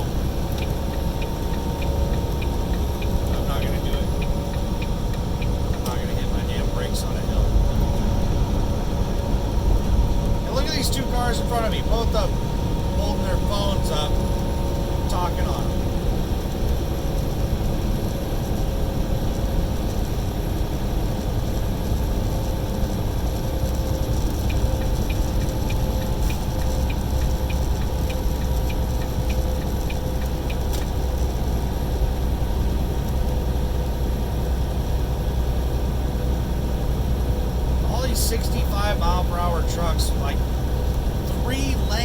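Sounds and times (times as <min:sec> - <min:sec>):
light regular ticking: 0:00.0 - 0:32.3, 0:37.8 - 0:42.0
truck engine and road noise: 0:00.0 - 0:42.0.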